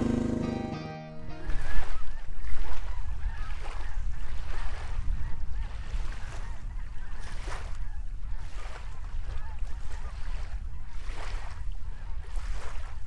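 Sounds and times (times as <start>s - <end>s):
wind on microphone: 1.4s - 13.0s.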